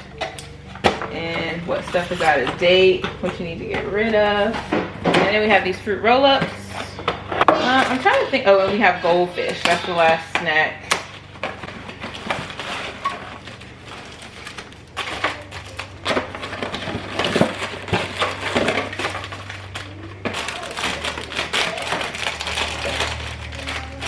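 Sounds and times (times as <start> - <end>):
packets knocking plastic trays: 0.0 - 24.0
plastic packaging crinkling: 0.0 - 24.0.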